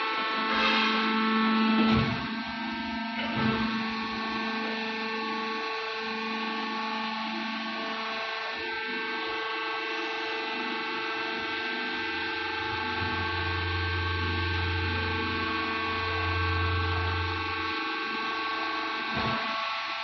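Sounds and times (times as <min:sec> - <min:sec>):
deeper hum: 0:00.0 - 0:20.0
electric motor and pump humming: 0:00.0 - 0:20.0.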